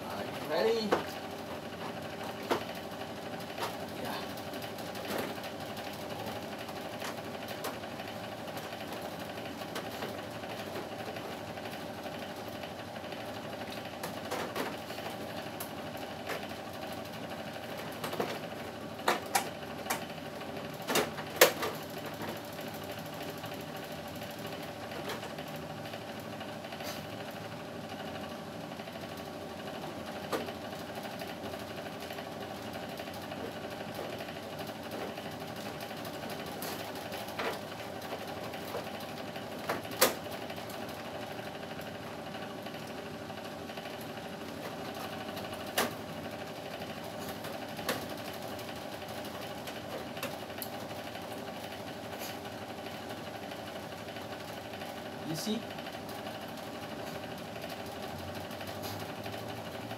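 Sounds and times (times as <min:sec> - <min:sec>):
steady machine hum with held tones: 0:00.0 - 0:59.9.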